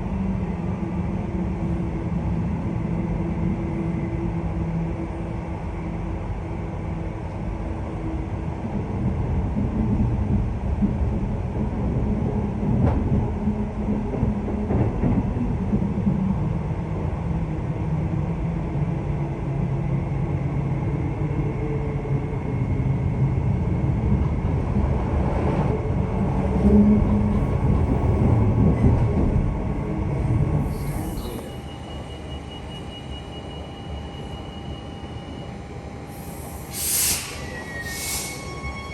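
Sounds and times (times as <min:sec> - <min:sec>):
train wheels rumbling on track: 0:00.0 - 0:20.7, 0:21.4 - 0:38.9.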